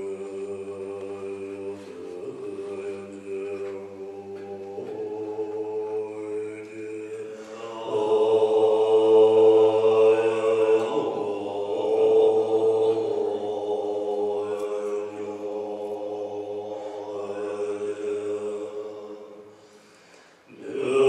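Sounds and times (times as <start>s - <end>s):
monks throat-singing chant: 0.0s - 21.0s.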